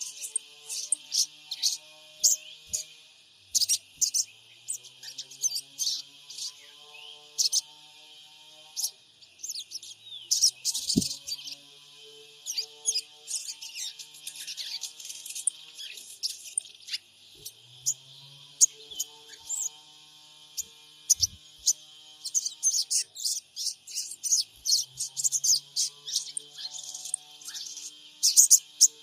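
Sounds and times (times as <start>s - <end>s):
birds chirping and twittering: 0.0s - 29.0s.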